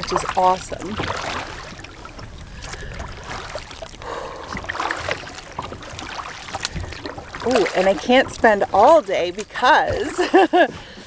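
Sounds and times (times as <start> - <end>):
kayak paddle splashing water: 0.0 - 11.0.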